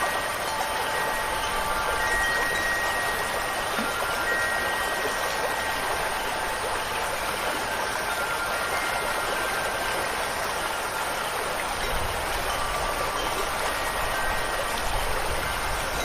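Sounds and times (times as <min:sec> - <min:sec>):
faint wind chimes ringing: 0:00.0 - 0:16.0
rain falling: 0:00.0 - 0:16.0.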